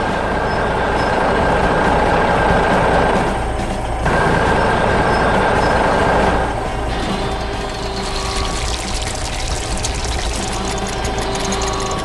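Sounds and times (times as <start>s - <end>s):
heavy machinery rumble: 0.0s - 12.0s
high mechanical whine: 0.0s - 12.0s.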